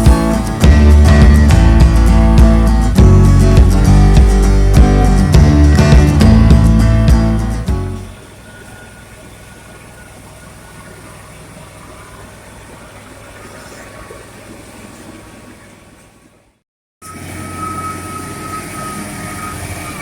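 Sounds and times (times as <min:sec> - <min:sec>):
engine idling: 0:00.0 - 0:16.6.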